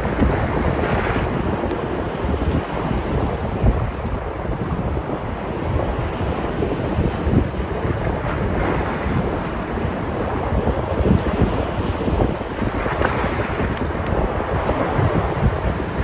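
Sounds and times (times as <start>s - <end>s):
sea waves breaking on shore: 0.0s - 16.0s
wind buffeting microphone: 0.0s - 16.0s.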